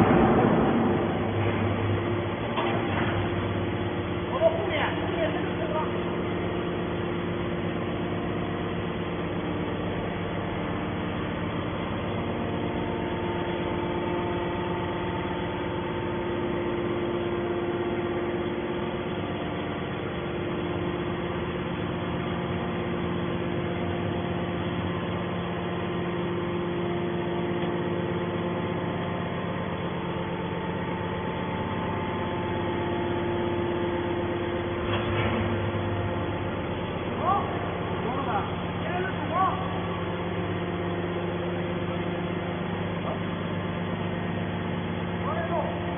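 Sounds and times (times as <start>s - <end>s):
hydraulic motor and pump humming: 0.0s - 45.9s.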